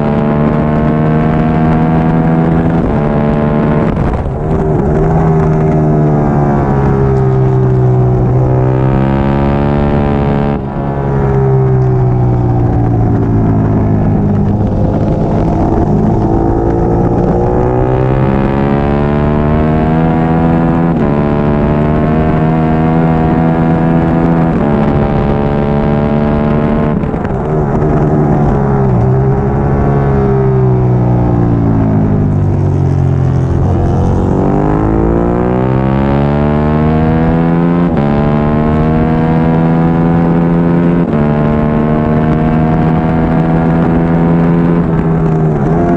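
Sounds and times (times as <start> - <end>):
racing motorcycle engine: 0.0 - 45.9.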